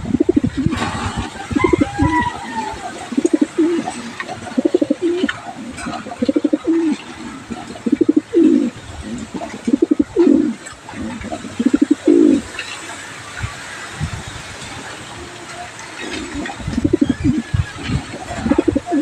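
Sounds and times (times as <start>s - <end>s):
pigeon cooing: 0.0s - 12.5s, 16.0s - 19.0s.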